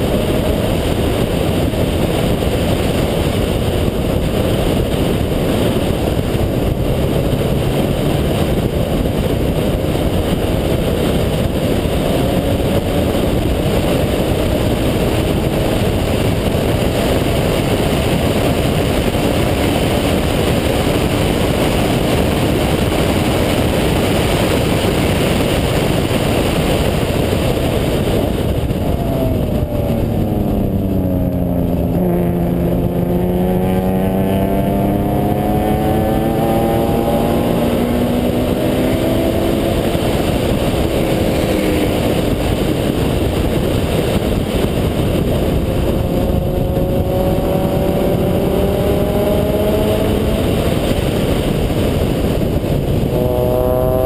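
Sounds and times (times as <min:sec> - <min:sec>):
rotary engine at speed: 0:00.0 - 0:54.0
wind rush: 0:00.0 - 0:54.0.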